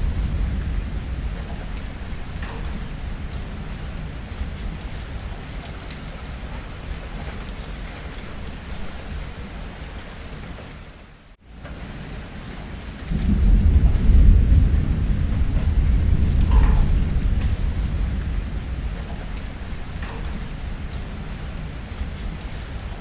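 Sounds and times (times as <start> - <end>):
thunder rumbling: 0.0 - 10.0, 11.6 - 23.0
steady rain: 0.0 - 23.0.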